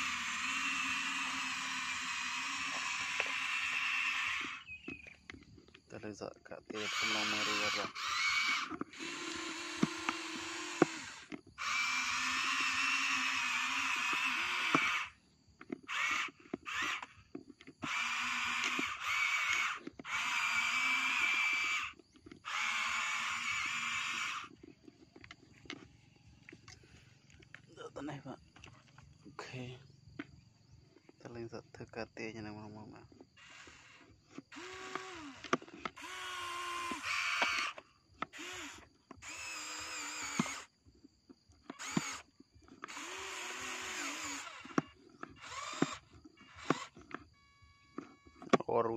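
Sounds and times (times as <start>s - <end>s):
sharp clicks: 0.0s - 5.8s, 6.7s - 27.8s, 33.2s - 40.7s, 41.6s - 47.3s
toy electric motors whining: 0.0s - 30.3s, 32.2s - 40.8s, 41.6s - 48.9s.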